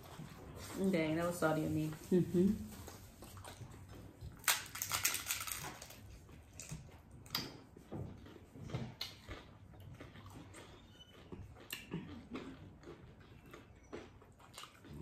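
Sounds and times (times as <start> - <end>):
quiet chewing with soft clicks: 1.9 - 15.0.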